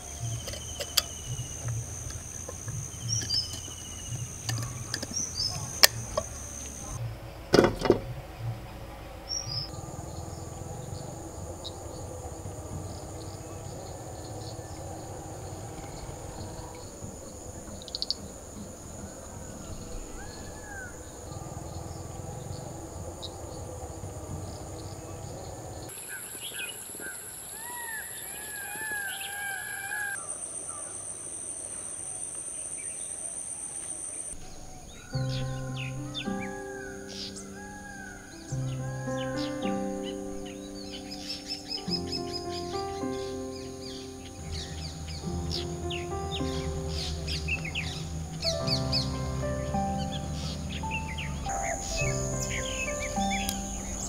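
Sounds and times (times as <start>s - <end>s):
birds chirping: 0.0s - 54.0s
insects buzzing: 0.0s - 54.0s.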